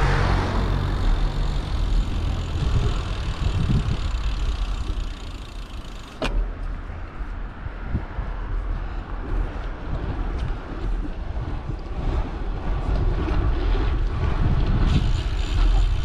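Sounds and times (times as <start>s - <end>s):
tyres on asphalt: 0.0s - 16.0s
wind rumbling on microphone: 0.0s - 16.0s.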